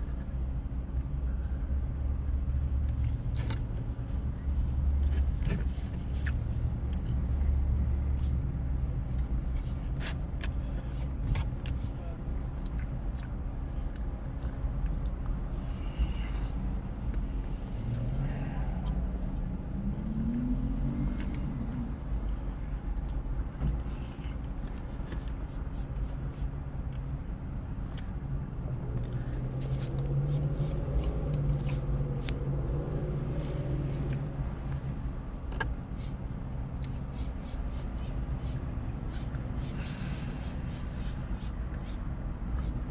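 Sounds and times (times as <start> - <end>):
person chewing with mouth smacks: 0.1 - 7.4, 8.0 - 42.9.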